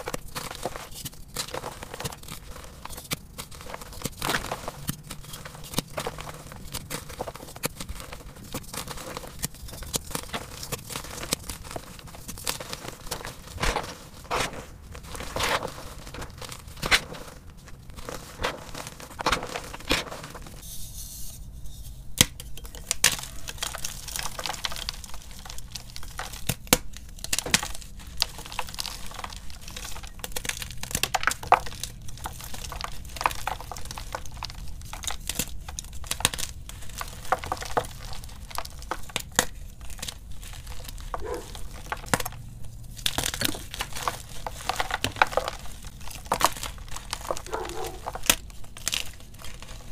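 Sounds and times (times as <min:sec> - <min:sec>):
chalk blocks crushed by hand: 0:00.0 - 0:20.6, 0:22.2 - 0:49.9.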